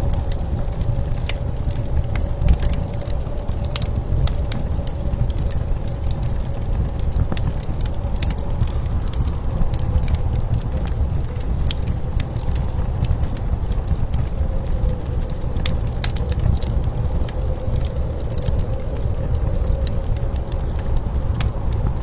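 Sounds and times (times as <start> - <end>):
blizzard wind rumbling: 0.0 - 22.0
wood fire crackling and popping: 0.0 - 22.0.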